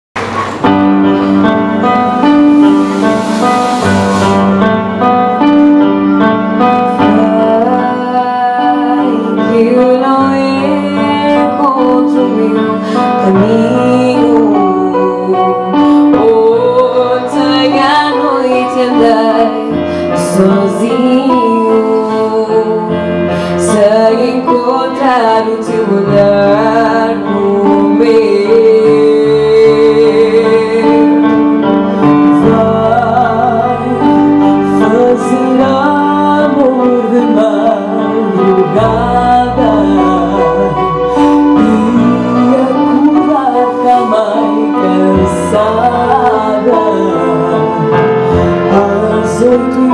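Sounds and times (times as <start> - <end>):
instrumental accompaniment: 0.2 - 49.9
woman singing: 6.6 - 49.9.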